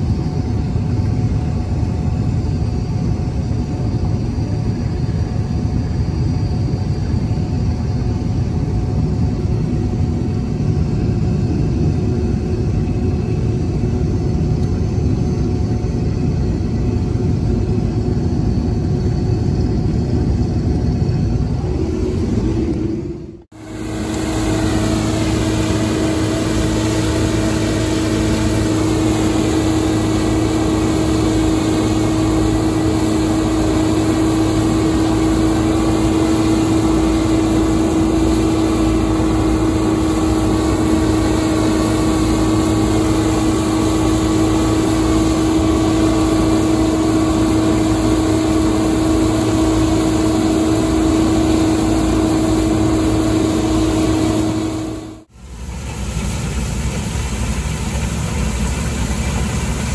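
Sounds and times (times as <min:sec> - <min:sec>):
combine harvester droning: 0:08.3 - 0:59.9.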